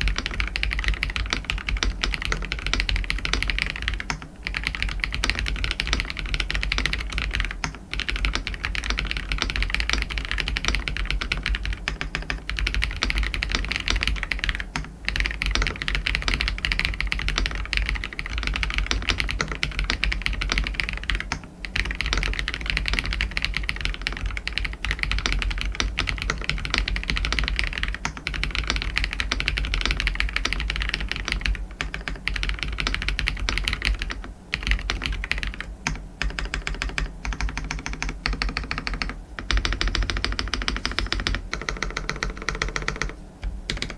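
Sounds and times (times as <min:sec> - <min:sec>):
mechanical keyboard typing: 0:00.0 - 0:43.9.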